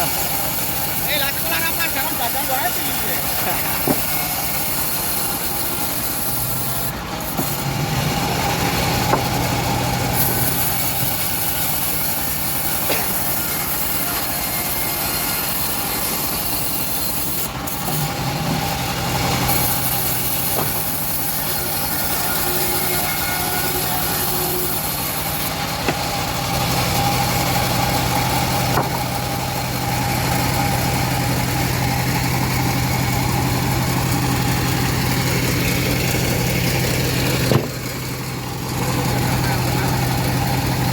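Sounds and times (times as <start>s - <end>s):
band blade sawing log: 0.0s - 40.9s
sawmill engine running: 0.0s - 40.9s.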